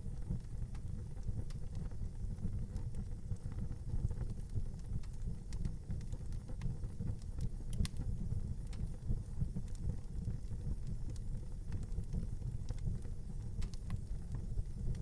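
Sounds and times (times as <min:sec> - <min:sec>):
fire crackles: 0:00.0 - 0:15.0
fire rumbling: 0:00.0 - 0:15.0.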